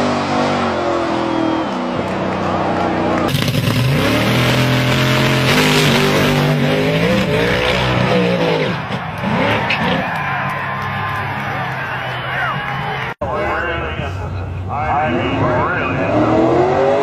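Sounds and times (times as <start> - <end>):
drag racing car engines revving: 0.0 - 17.0.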